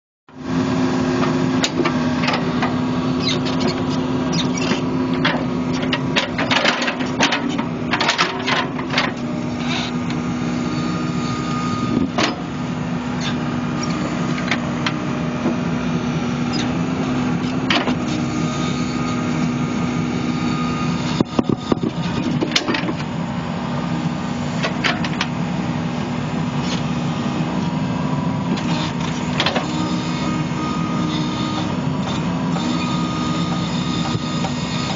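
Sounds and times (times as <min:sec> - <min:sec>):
excavator diesel engine running: 0:00.3 - 0:34.9.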